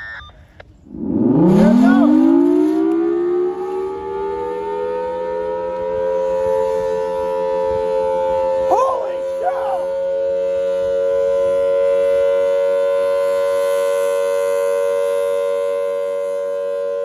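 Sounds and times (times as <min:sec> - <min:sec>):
tornado siren rising in pitch: 0:00.8 - 0:17.0.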